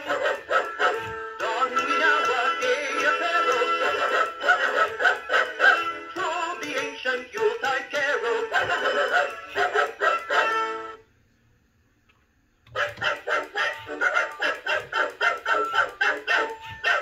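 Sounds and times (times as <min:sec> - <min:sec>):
electronic song from toy speaker: 0:00.0 - 0:10.9, 0:12.8 - 0:17.0.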